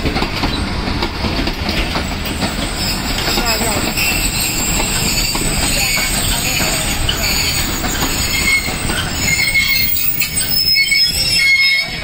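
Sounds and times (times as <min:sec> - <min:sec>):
train carriages rumbling and clattering: 0:00.0 - 0:12.0
train wheels squealing on rails: 0:02.0 - 0:12.0.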